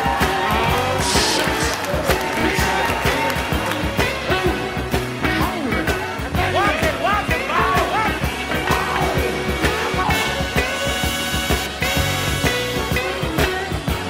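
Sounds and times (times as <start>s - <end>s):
person singing: 0.0s - 11.0s, 12.6s - 14.0s
steady drum beat: 0.0s - 14.0s.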